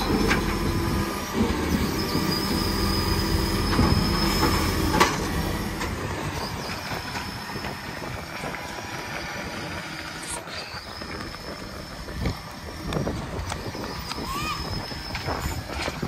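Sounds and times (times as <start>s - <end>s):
truck diesel engine driving away: 0.0s - 16.0s.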